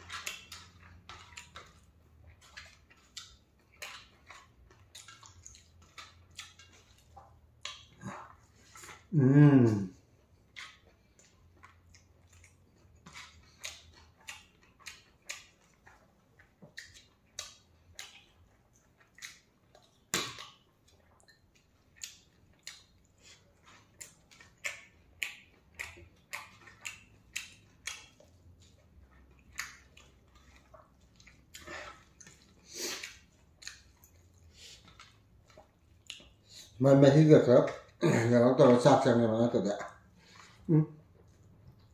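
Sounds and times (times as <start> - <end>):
wet chewing and lip-smacking: 0.0 - 38.0, 38.6 - 41.9.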